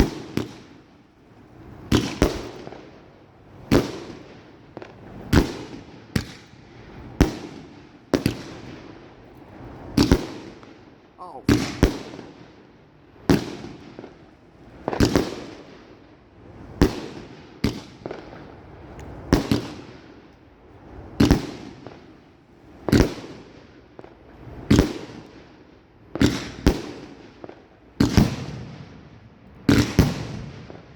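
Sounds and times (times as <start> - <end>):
firework bangs with crackle: 0.0 - 30.9.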